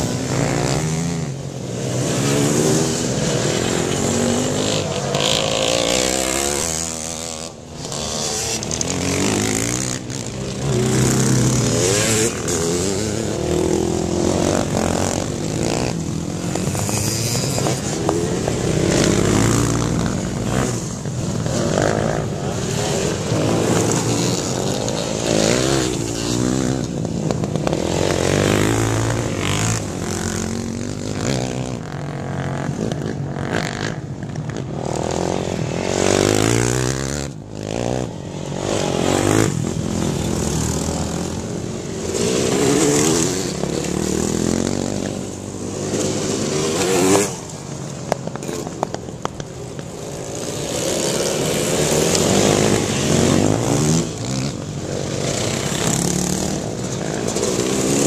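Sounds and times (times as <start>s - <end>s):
motorcycles revving past: 0.0s - 58.0s.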